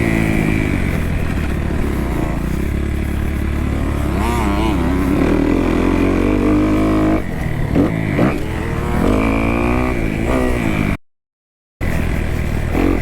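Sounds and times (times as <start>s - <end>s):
motorcycle engine revving: 0.0s - 11.0s, 11.8s - 13.0s.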